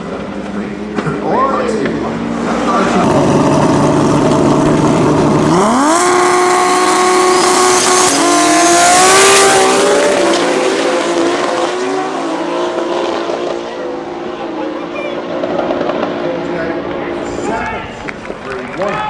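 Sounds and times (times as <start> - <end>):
race car engine at full throttle: 0.0 - 18.4.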